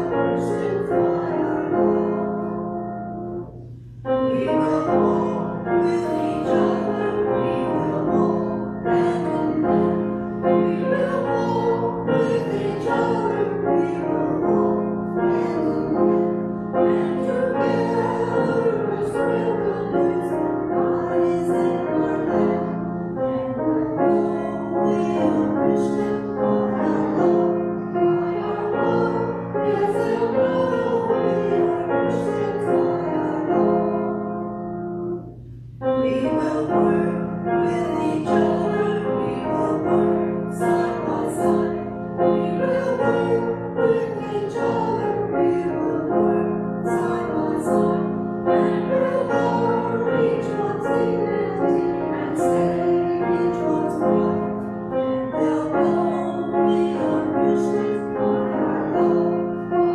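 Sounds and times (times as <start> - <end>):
mixed choir singing: 0.0 - 3.2, 4.0 - 35.1, 35.9 - 59.9
piano accompaniment: 0.0 - 59.9.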